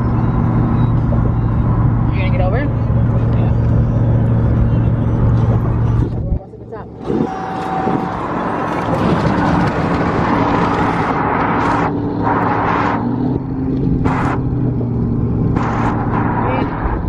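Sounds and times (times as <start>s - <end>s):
rushing wind noise: 0.0s - 17.0s
truck engine and road drone: 0.0s - 17.0s.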